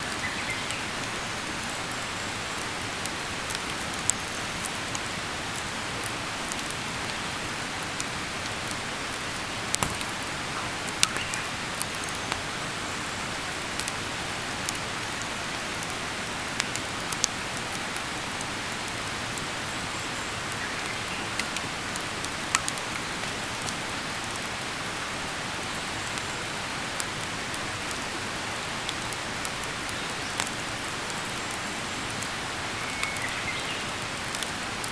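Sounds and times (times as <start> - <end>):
campfire crackling and popping: 2.6 - 24.7, 26.1 - 32.4, 33.0 - 34.9.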